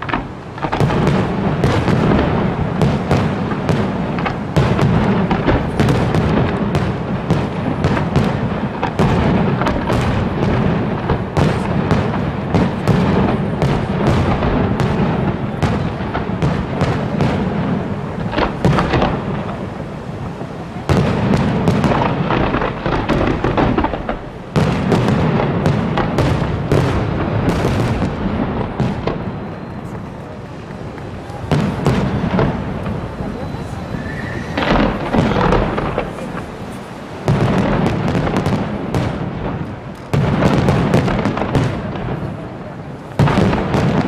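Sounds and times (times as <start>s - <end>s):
firework bangs and crackle: 0.0s - 44.0s.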